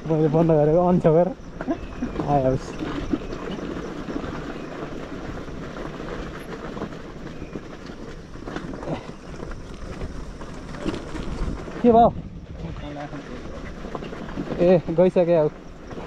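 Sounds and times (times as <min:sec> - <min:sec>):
motorcycle rattling and knocking: 0:00.0 - 0:16.0
tyres crunching over gravel: 0:00.0 - 0:16.0.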